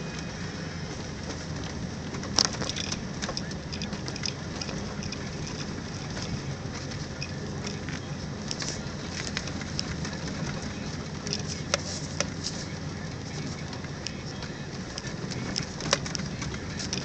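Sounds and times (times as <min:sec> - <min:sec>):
tyres crunching snow: 0:00.0 - 0:17.0
vehicle engine and road rumble: 0:00.0 - 0:17.0.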